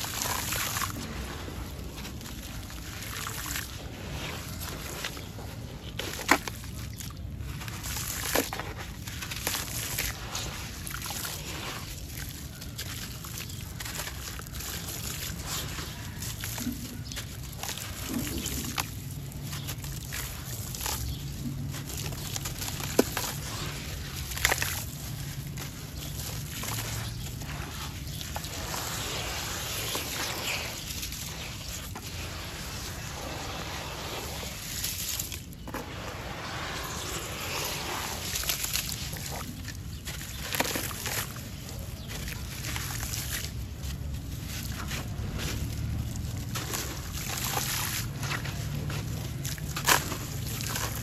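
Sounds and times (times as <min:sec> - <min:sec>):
water sloshing and trickling: 0:00.0 - 0:51.0
wet sand crumbling: 0:00.0 - 0:51.0.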